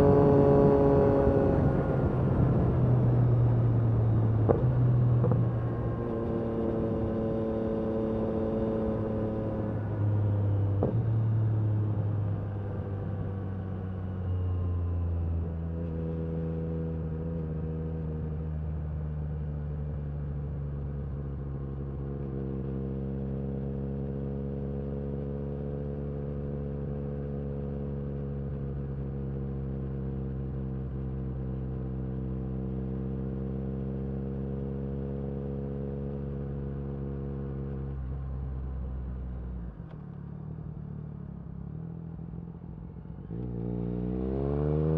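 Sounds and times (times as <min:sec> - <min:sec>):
motorcycle engine droning: 0:00.0 - 0:44.9.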